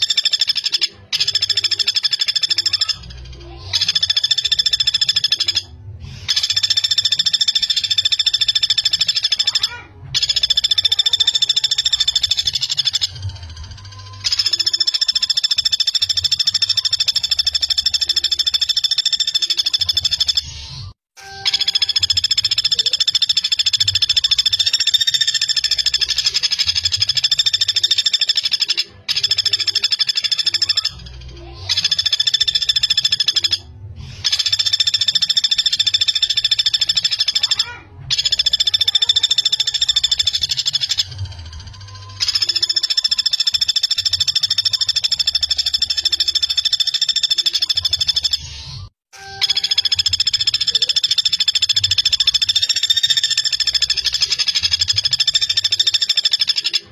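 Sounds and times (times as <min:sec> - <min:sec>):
woodpecker rattling trills: 0:00.0 - 0:48.6, 0:49.2 - 0:56.9.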